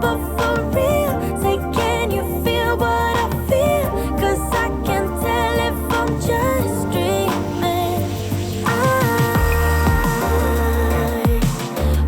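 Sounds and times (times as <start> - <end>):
pop song through headphones: 0.0 - 12.0.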